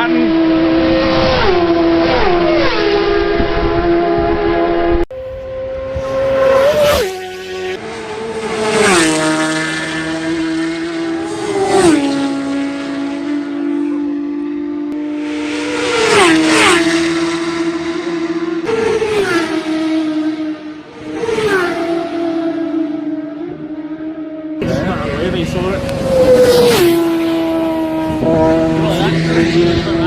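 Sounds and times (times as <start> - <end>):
racing motorcycles passing by: 0.0 - 30.0.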